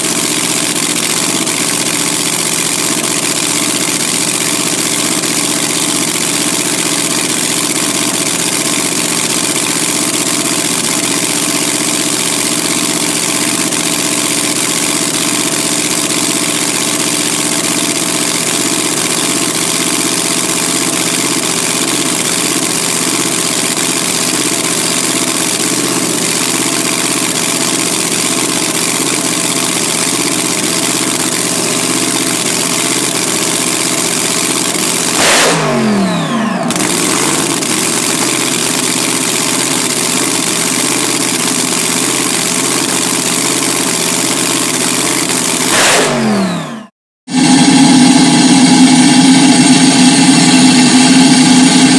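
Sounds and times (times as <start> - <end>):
engine idling: 0.0 - 51.9.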